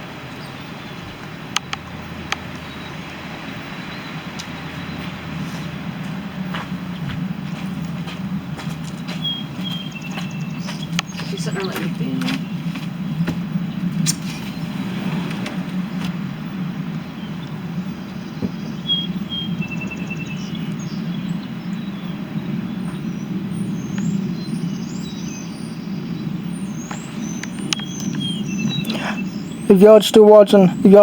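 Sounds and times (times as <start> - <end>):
low outdoor rumble: 0.0 - 31.0
small birds chirping: 0.0 - 31.0.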